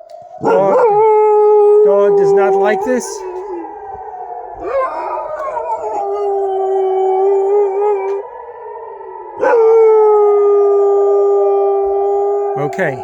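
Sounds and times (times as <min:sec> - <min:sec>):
air-raid warning siren: 0:00.0 - 0:13.0
dog howling: 0:00.1 - 0:13.0.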